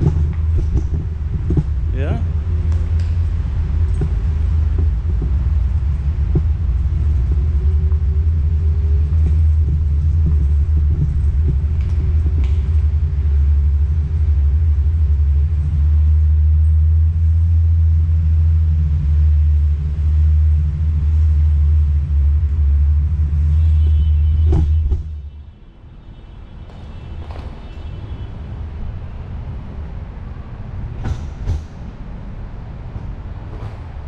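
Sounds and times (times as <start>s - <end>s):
power wheelchair rumbling: 0.0s - 25.4s, 26.6s - 34.0s.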